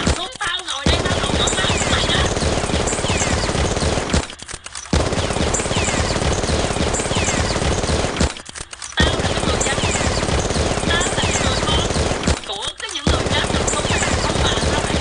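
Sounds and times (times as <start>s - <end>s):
automatic gunfire: 0.0s - 15.0s.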